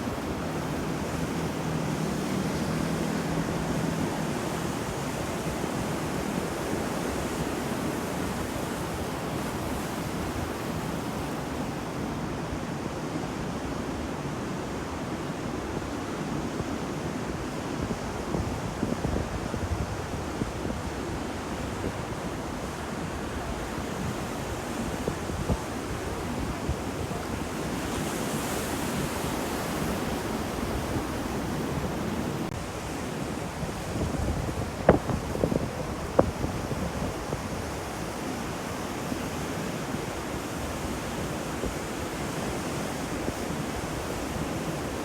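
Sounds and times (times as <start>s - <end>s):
ocean surf washing onto shore: 0.0s - 45.0s.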